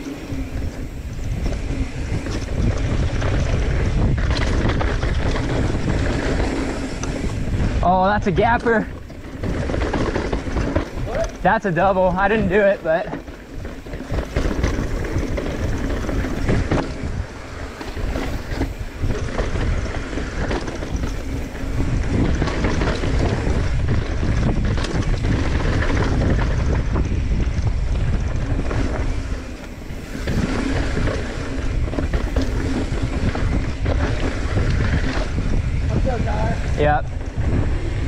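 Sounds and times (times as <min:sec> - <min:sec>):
tyres rolling over dirt: 0:00.0 - 0:38.0
wind buffeting microphone: 0:00.0 - 0:38.0
bike clattering over rocks: 0:01.3 - 0:35.9.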